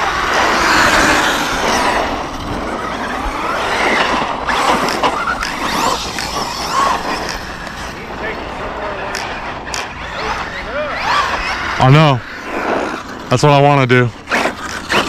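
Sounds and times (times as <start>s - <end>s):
electric motor whining: 0.0s - 13.4s, 14.1s - 15.0s
steady rushing noise: 0.0s - 15.0s.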